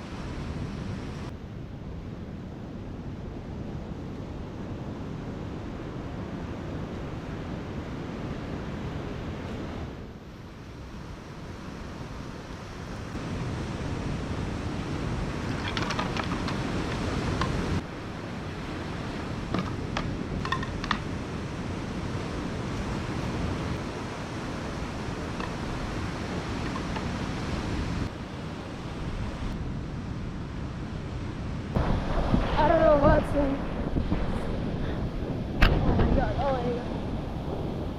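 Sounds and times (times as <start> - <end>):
ocean surf washing on beach: 0.0 - 37.9
wind buffeting microphone: 0.0 - 37.9.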